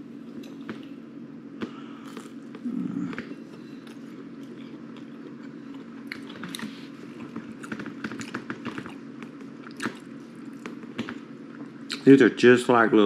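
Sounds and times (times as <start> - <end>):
low hum: 0.0 - 12.4
man chewing: 0.2 - 12.0.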